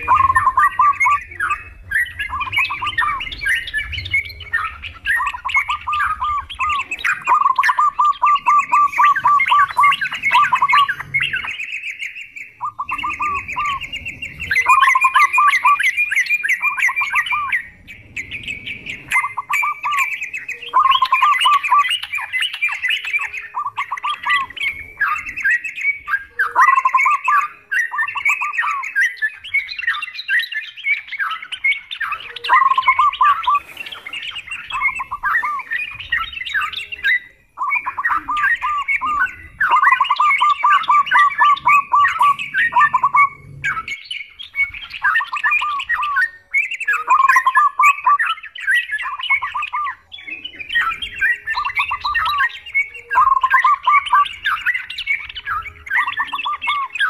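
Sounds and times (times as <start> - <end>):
bulbuls singing and chattering: 0.0 - 57.0.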